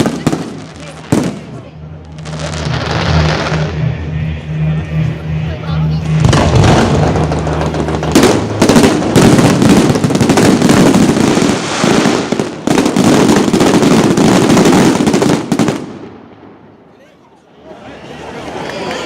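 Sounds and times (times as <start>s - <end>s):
fireworks bangs and crackles: 0.0s - 5.2s, 5.9s - 16.8s.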